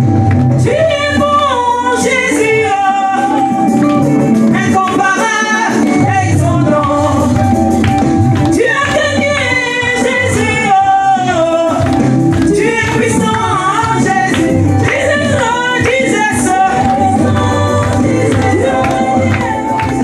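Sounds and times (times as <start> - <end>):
band with bass and percussion: 0.0 - 20.0
woman singing into microphone: 0.5 - 20.0.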